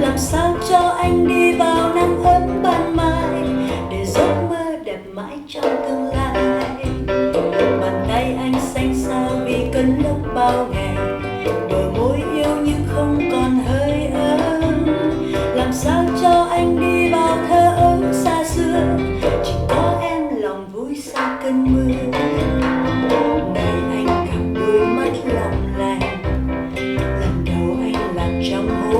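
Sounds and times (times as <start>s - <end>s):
person singing: 0.0s - 28.9s
song from vinyl record: 0.0s - 28.9s.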